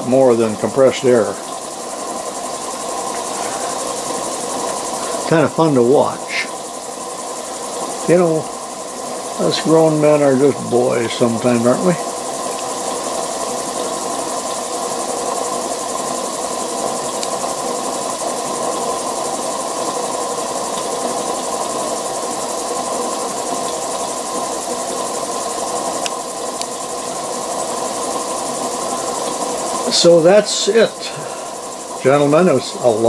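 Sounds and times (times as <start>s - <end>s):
gas burner noise: 0.0s - 33.0s
model steam engine running: 0.0s - 33.0s.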